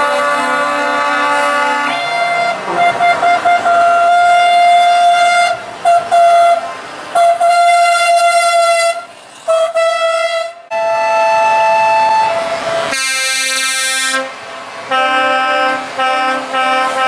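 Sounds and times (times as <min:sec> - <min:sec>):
truck air horn blasts: 0:00.0 - 0:17.0.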